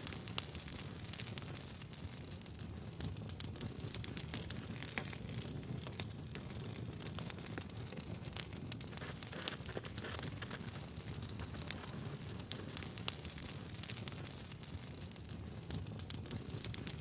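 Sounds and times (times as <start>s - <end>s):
burning logs crackling: 0.0s - 17.0s
low rush of flames: 0.0s - 17.0s.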